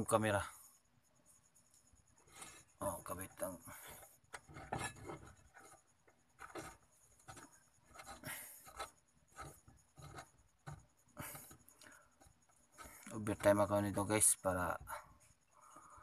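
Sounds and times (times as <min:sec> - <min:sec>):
faint metal scraping: 0:00.0 - 0:16.0.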